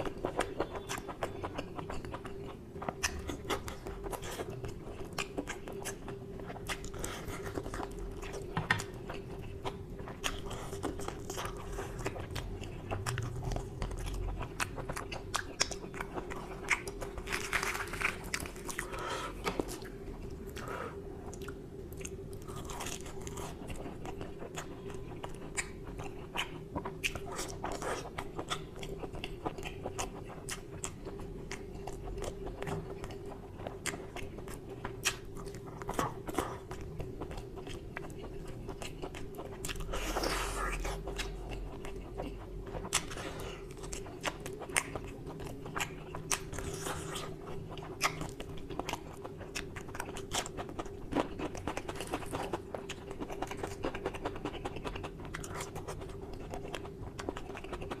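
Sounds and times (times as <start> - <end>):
chewing with wet mouth clicks: 0.0 - 58.0.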